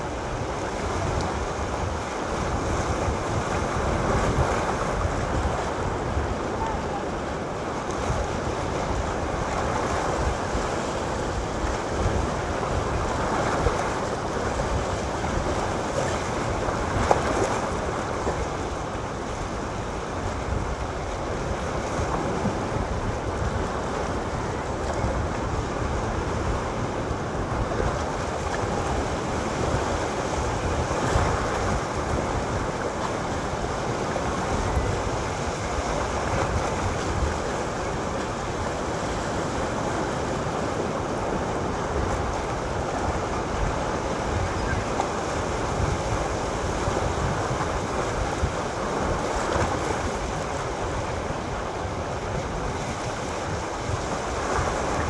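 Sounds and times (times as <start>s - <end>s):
waves breaking on rocky shore: 0.0s - 55.0s.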